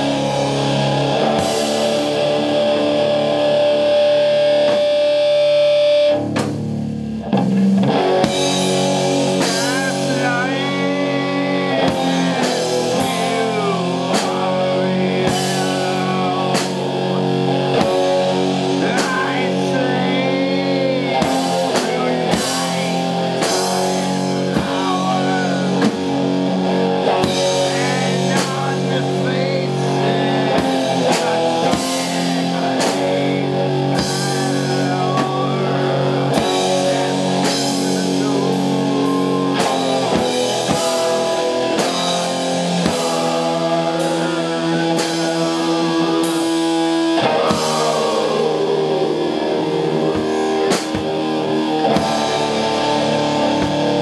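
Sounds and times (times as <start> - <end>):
drum kit with cymbal crashes: 0.0 - 54.0
electric guitar chords: 0.0 - 54.0.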